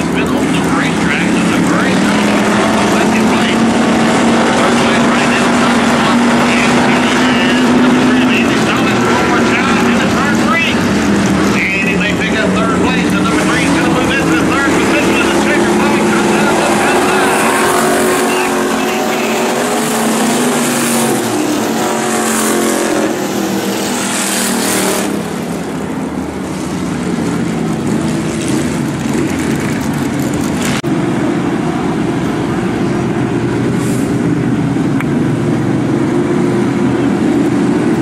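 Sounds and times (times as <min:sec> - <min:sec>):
race car engines passing: 0:00.0 - 0:38.0.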